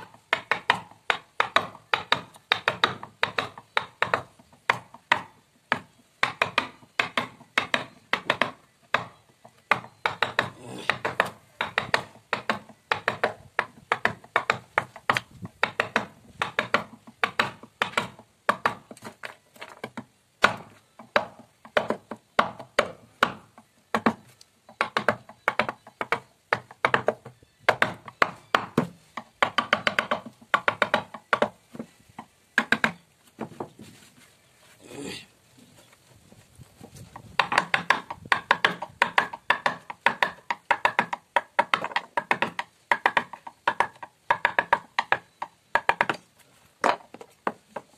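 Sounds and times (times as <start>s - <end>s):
mallet striking chisel into wood: 0.0s - 18.9s, 20.4s - 31.6s, 32.6s - 33.0s, 37.4s - 46.2s.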